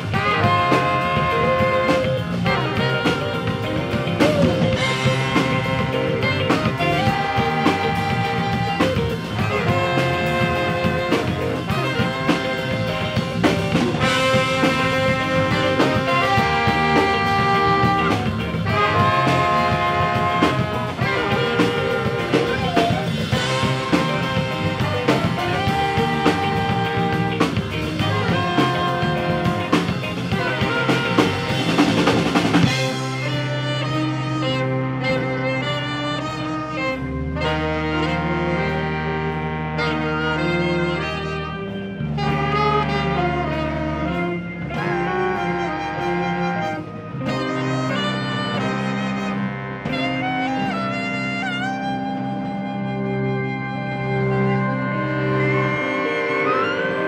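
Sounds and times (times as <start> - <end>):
drum kit: 0.0 - 57.0
horn section playing: 0.0 - 57.0.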